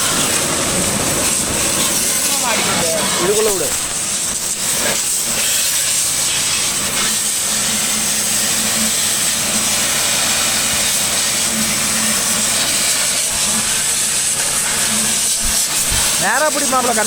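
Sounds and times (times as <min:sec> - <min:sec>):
high-pressure water jet spraying: 0:00.0 - 0:17.0.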